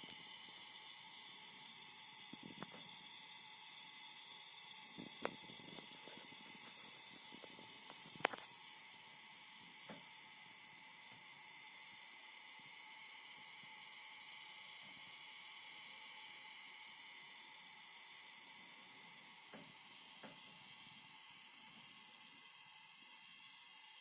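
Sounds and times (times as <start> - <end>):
power supply high-pitched hiss: 0.0 - 24.0.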